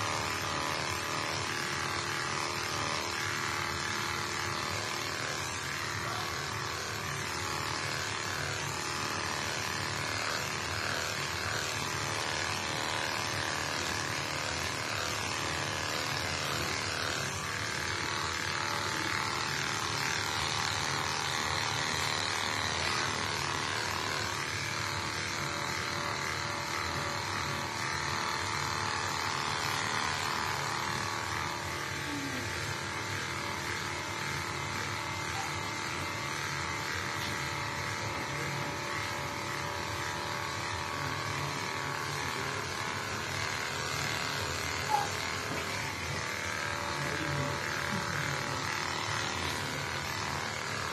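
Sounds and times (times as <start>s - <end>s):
electric hair clippers buzzing: 0.0s - 50.9s.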